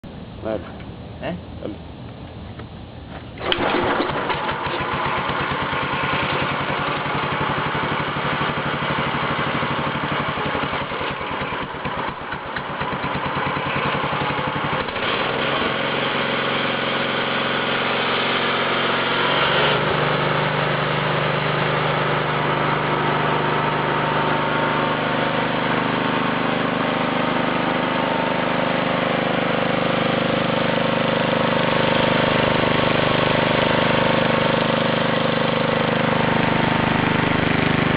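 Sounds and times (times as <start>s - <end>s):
concrete saw engine running: 3.4s - 37.9s.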